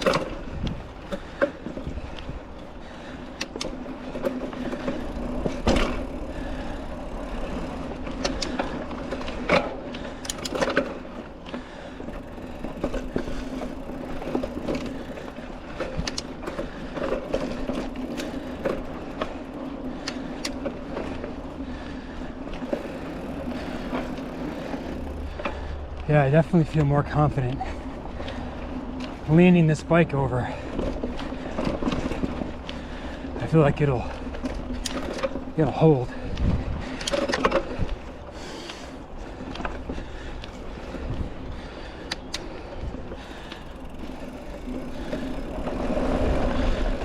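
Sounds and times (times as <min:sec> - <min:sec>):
bike rattles and knocks: 0:00.0 - 0:47.0
bike tyres rolling on dirt: 0:00.0 - 0:47.0.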